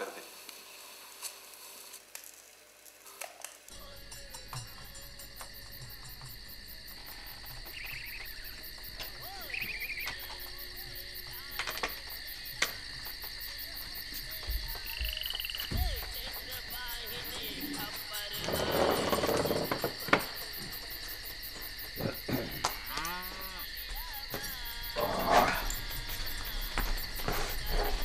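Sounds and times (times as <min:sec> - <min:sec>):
crickets chirring: 0:00.0 - 0:28.0
frogs trilling: 0:03.7 - 0:28.0.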